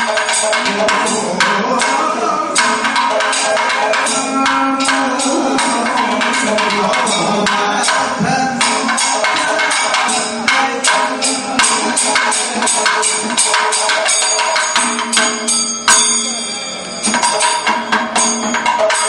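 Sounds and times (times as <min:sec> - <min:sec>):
fast drumming: 0:00.0 - 0:16.4, 0:17.0 - 0:19.0
ringing cymbals: 0:00.0 - 0:19.0.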